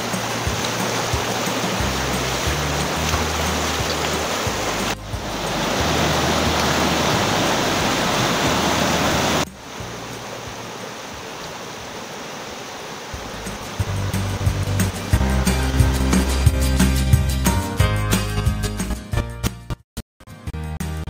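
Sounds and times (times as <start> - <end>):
creek rushing over rapids: 0.0 - 17.6.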